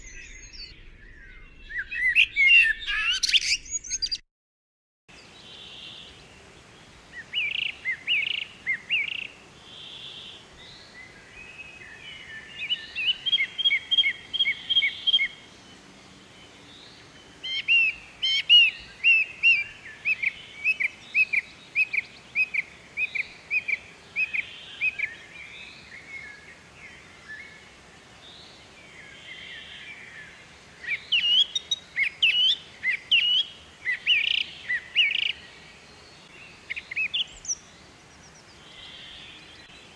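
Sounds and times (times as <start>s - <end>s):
songbirds chirping and whistling: 0.0s - 4.2s, 5.2s - 39.9s
faint background hiss: 5.1s - 39.9s.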